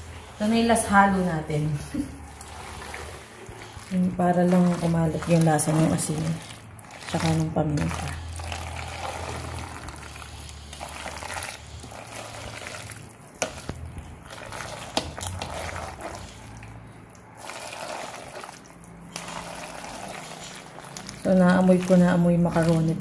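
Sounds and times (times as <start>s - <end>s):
spatula stirring wet salad: 0.0s - 23.0s.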